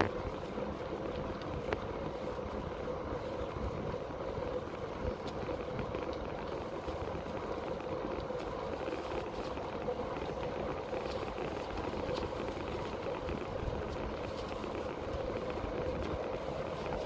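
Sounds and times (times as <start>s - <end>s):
faint ticks: 0.0s - 17.0s
wind buffeting microphone: 0.0s - 17.0s.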